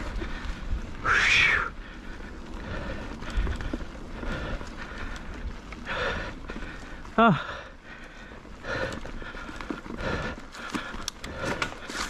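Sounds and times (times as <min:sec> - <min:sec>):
bike tyres rumbling on dirt trail: 0:00.0 - 0:12.0.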